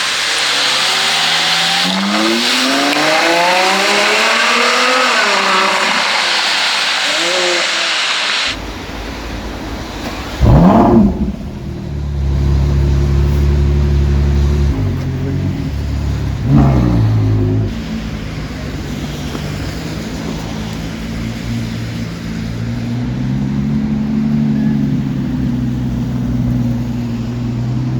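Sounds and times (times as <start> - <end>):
car engine revving and idling: 0.0 - 27.9.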